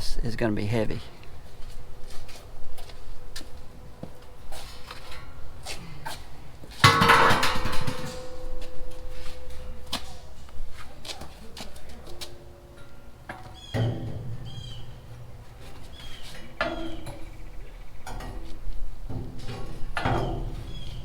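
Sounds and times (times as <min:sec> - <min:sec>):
metal knocks and clanks: 0:01.0 - 0:21.0
ringing metal clang: 0:01.0 - 0:21.0.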